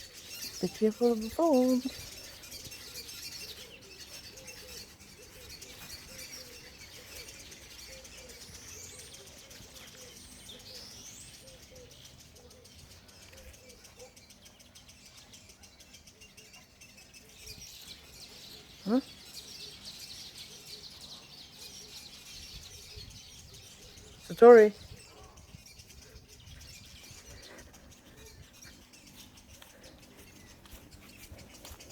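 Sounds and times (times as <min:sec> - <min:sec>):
birds chirping faintly: 0:00.0 - 0:31.9.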